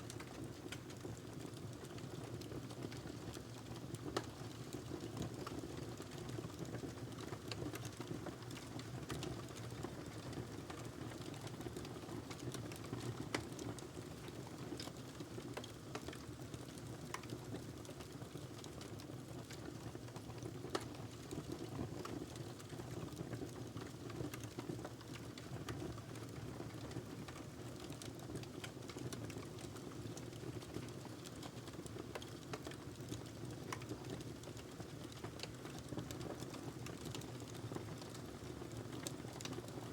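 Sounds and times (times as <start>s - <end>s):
low rumble of burning fire: 0.0s - 39.9s
wood fire crackling: 0.1s - 39.9s.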